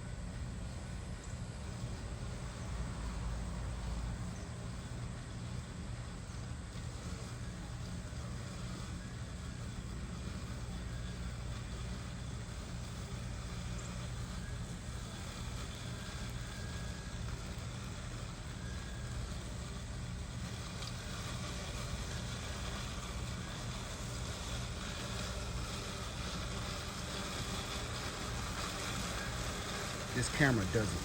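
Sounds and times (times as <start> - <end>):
robot lawnmower humming: 0.0 - 31.0.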